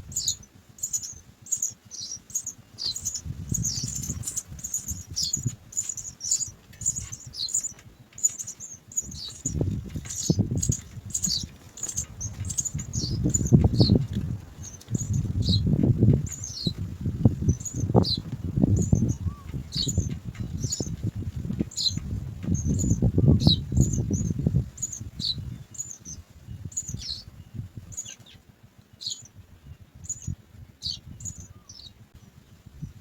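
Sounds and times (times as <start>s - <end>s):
rustling and fluttering in nest: 0.0s - 33.0s
sparrows chirping: 0.0s - 33.0s.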